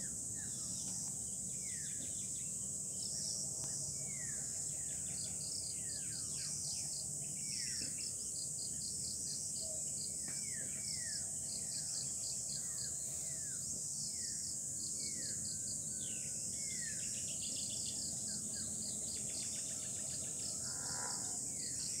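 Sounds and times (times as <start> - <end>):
insect chorus chirping: 0.0 - 22.0.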